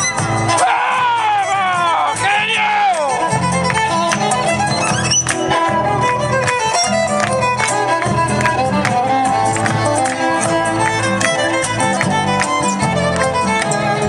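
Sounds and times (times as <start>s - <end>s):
folk music with violin melody: 0.0s - 14.0s.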